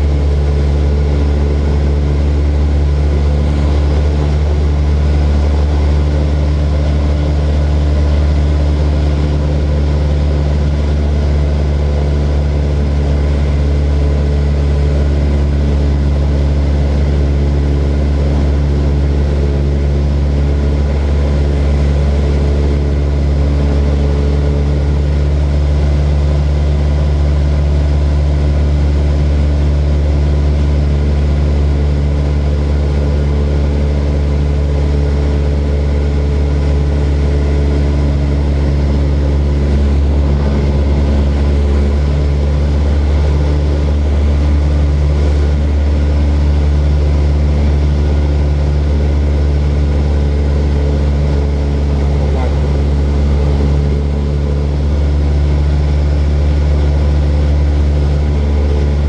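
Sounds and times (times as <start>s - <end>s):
propeller plane engine humming: 0.0s - 59.0s.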